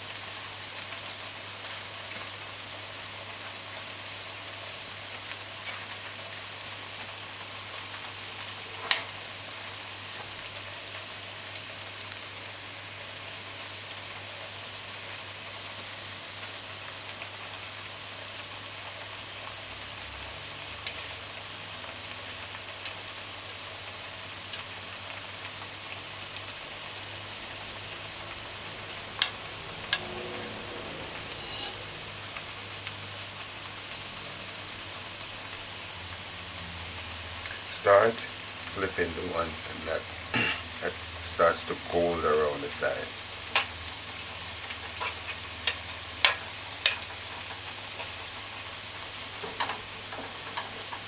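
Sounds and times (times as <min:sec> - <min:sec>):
plantain sizzling in hot oil: 0:00.0 - 0:51.0.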